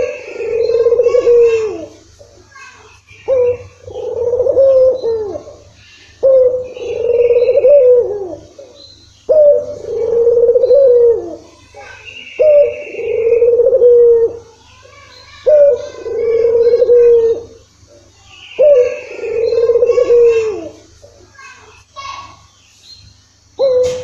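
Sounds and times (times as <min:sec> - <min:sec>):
dove cooing: 0:00.0 - 0:02.0, 0:03.2 - 0:14.6, 0:15.4 - 0:21.2, 0:23.6 - 0:24.0.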